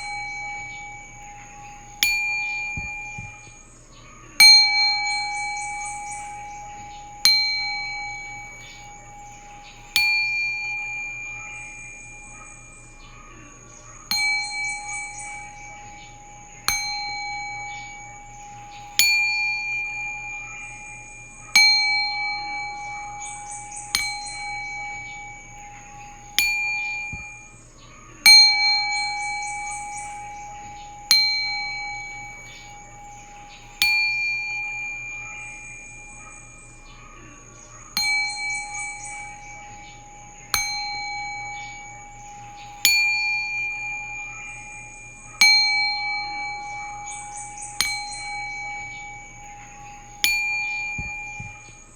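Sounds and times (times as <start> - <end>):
singing bowl ringing: 0.0 - 51.9.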